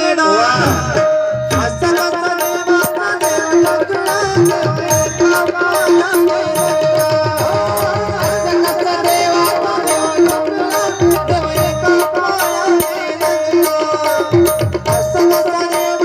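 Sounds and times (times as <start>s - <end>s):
tabla playing a rhythm: 0.0s - 16.0s
held melodic line: 0.6s - 16.0s.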